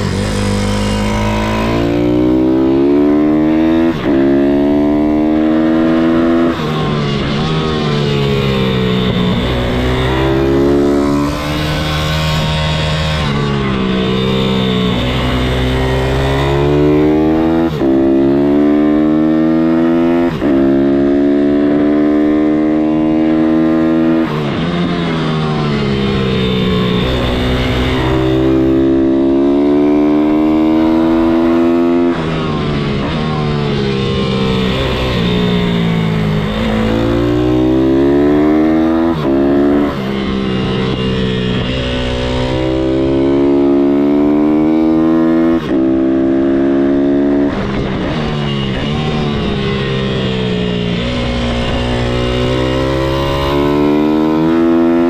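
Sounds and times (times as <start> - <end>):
pit bike engine revving: 0.0 - 55.0.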